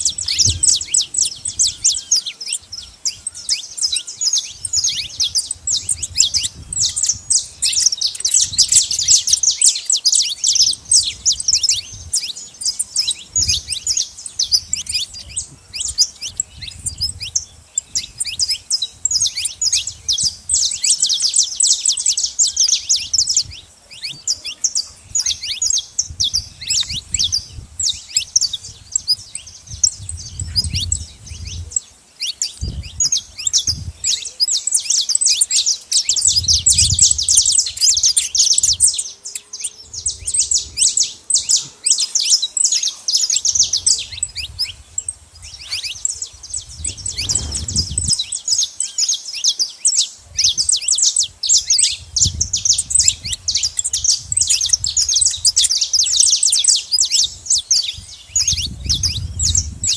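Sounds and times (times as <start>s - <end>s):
finches chirping: 0.0s - 59.9s.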